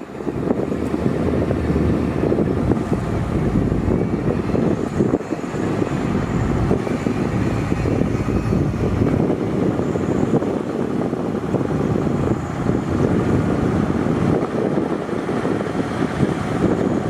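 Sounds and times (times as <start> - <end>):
diesel construction machinery rumbling: 0.0 - 17.0.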